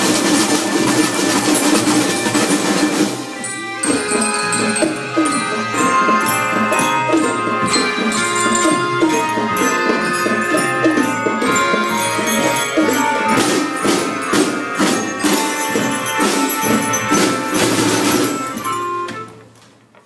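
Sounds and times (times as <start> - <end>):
drum beats: 0.0 - 19.3
melodicas playing melody: 0.0 - 19.5.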